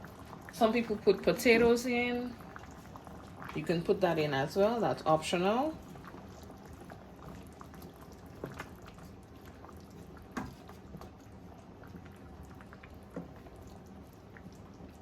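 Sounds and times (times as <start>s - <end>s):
stew bubbling in a pot: 0.0s - 15.0s.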